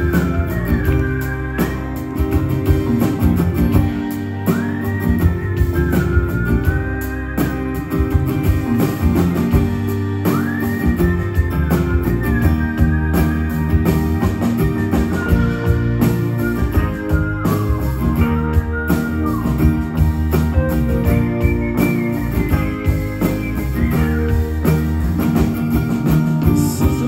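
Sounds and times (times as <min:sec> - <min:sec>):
live indie rock band: 0:00.0 - 0:27.0.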